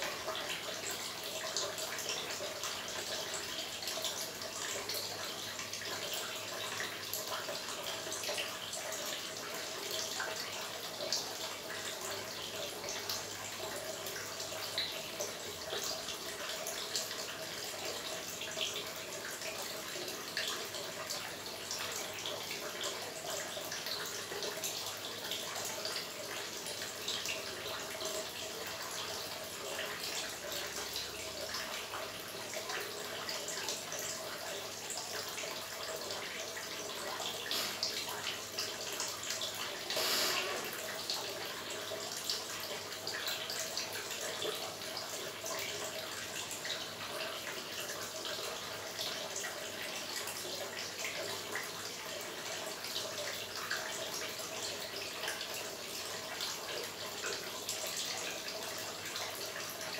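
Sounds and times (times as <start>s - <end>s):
fountain water trickling and splashing: 0.0s - 59.9s.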